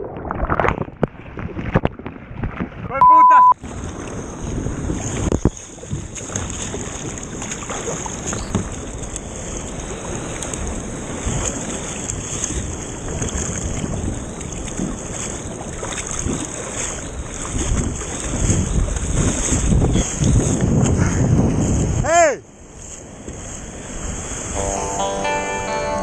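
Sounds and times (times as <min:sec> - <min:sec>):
wind buffeting microphone: 0:00.0 - 0:03.0, 0:03.6 - 0:24.6
surf splashing against kayak: 0:00.0 - 0:26.0.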